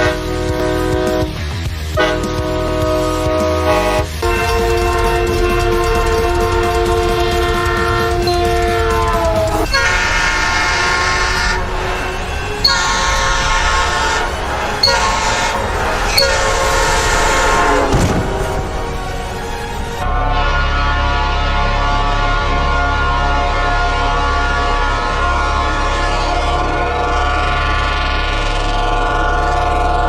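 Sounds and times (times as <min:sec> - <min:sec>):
locomotive air horn: 0:00.0 - 0:30.0
passing train rumble: 0:00.0 - 0:30.0.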